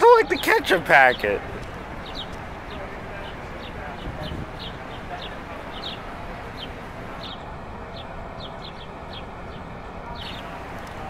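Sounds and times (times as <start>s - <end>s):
birds chirping: 0.0s - 11.0s
steady rushing noise: 0.0s - 11.0s.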